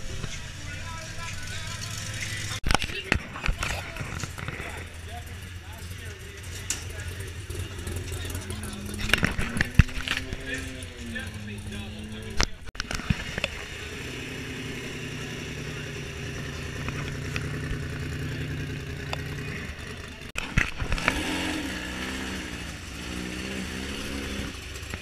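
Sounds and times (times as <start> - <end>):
truck engine idling: 0.0 - 20.4
crowd chatter: 0.0 - 21.4
engine revving: 0.0 - 25.0.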